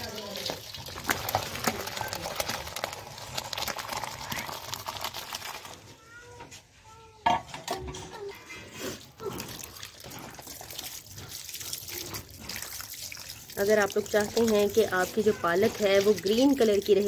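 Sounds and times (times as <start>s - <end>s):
water splashing through colander: 0.0s - 6.0s, 8.1s - 17.0s.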